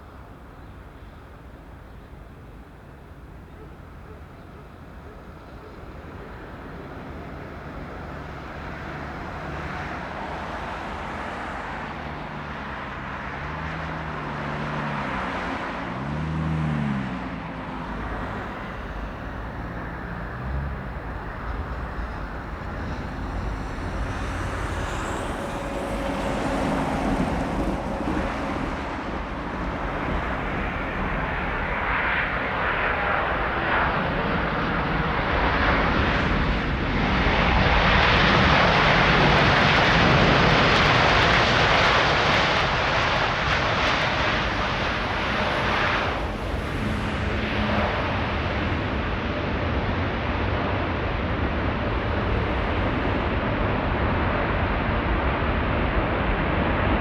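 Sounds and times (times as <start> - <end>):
jet engines roaring: 4.7 - 57.0.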